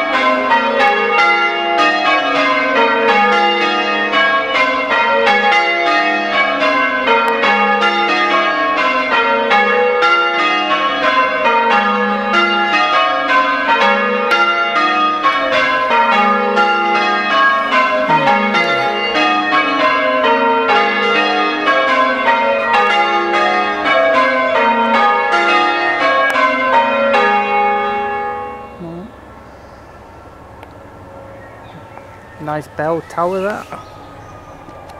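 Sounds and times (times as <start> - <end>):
church bells change ringing: 0.0 - 29.4.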